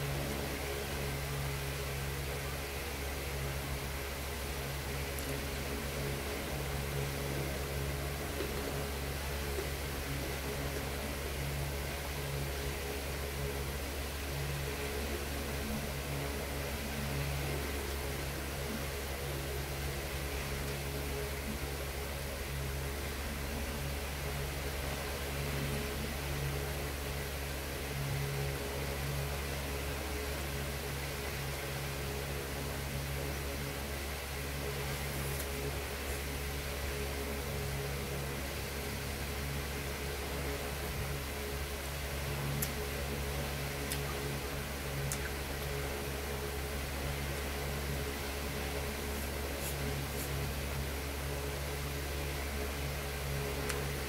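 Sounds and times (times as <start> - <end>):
steady mechanical hum and hiss: 0.0 - 54.0.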